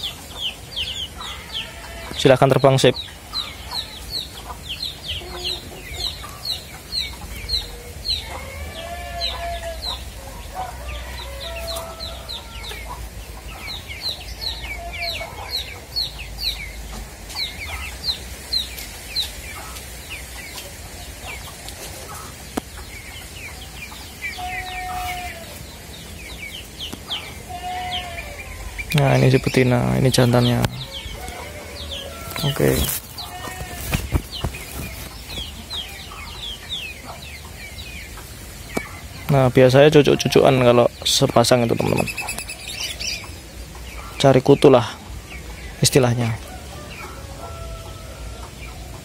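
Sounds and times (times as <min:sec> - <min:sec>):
bird clucking calls: 0:00.0 - 0:49.0
birds chirping: 0:00.0 - 0:49.0.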